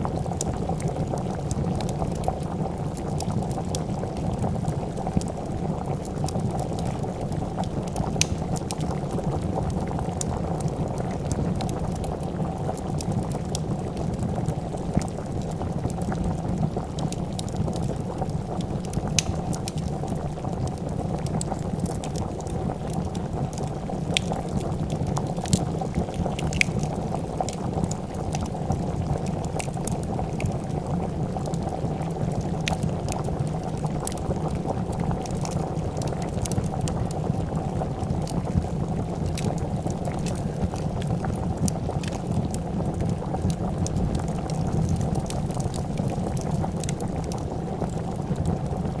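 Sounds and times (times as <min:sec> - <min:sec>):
soup bubbling in a pot: 0:00.0 - 0:49.0
wood fire crackling: 0:00.0 - 0:49.0.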